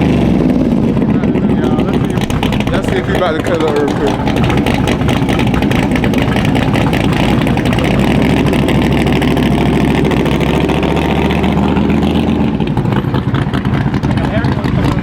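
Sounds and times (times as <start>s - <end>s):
car engine running loud: 0.0s - 15.0s.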